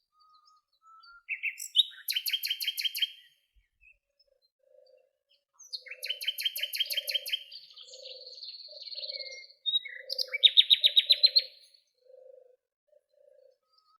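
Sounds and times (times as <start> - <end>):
songbird trills: 0.0 - 14.0.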